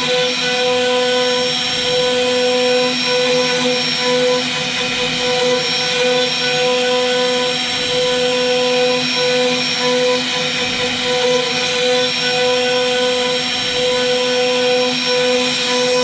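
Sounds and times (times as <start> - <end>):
router spindle whine: 0.0 - 16.0.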